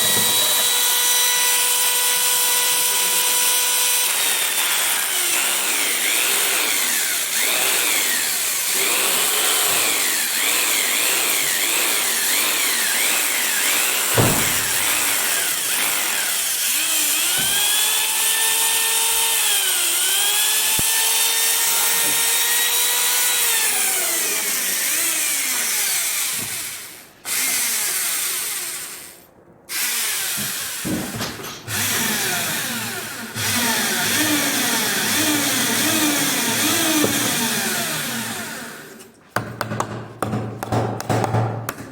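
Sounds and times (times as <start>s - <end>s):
power tool motor whine on wood: 0.0s - 29.1s, 31.7s - 39.0s.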